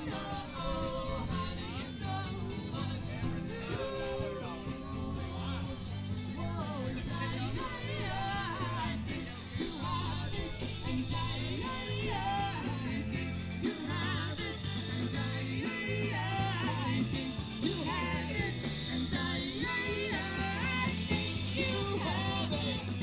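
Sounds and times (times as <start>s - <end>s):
bass notes: 0.0s - 23.0s
live rock band: 0.0s - 23.0s
person singing: 0.0s - 23.0s.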